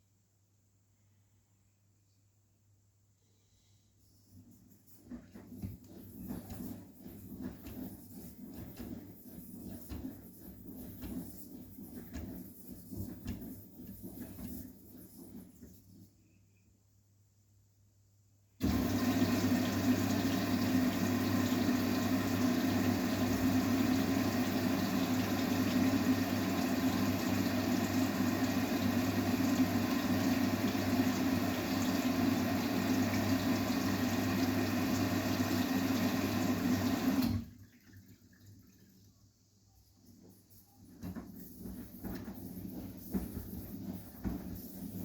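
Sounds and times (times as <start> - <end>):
water rushing in washing machine: 4.8 - 16.1, 18.6 - 45.0.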